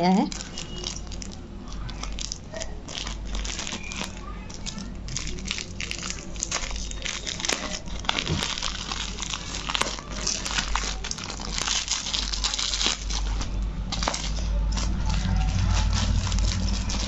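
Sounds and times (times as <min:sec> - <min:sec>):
plastic mailer bag crinkling: 0:00.2 - 0:17.0.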